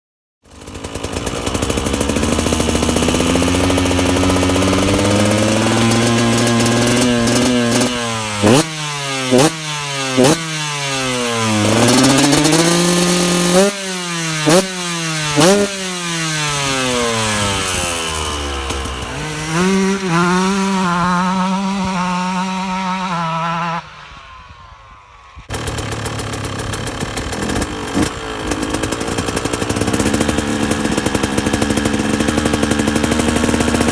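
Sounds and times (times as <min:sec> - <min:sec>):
motorcycle engine revving: 0:00.4 - 0:33.9.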